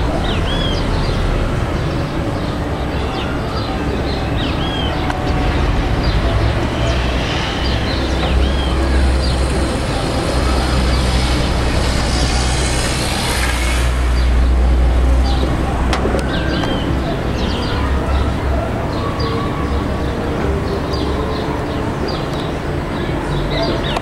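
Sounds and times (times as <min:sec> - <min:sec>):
traffic noise: 0:00.0 - 0:24.0.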